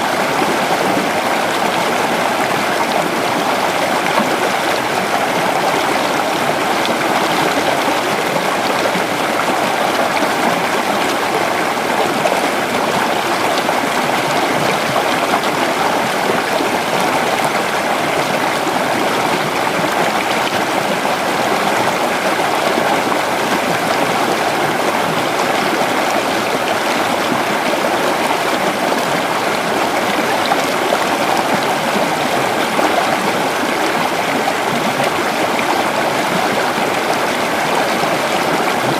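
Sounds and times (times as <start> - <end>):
creek water babbling over rocks: 0.0 - 38.9.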